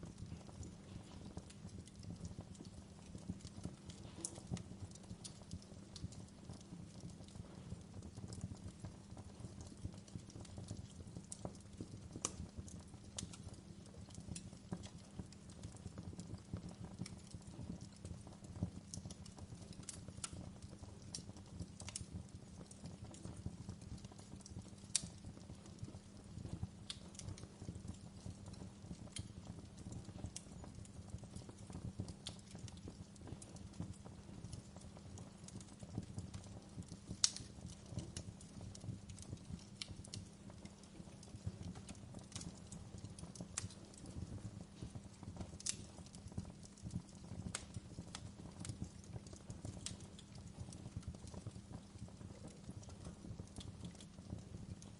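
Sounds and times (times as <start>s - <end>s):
fire pops: 0.0s - 54.9s
wood fire crackling: 0.0s - 54.9s.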